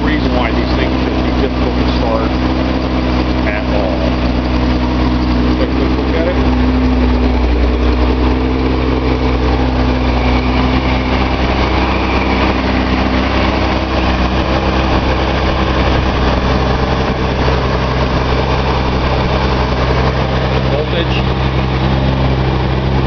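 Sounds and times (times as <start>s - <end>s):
engine running at fast idle: 0.0s - 23.0s.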